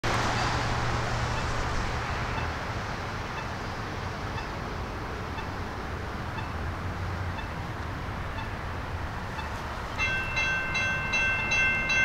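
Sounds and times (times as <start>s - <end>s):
road traffic rumble: 0.0s - 12.0s
wind: 0.0s - 12.0s.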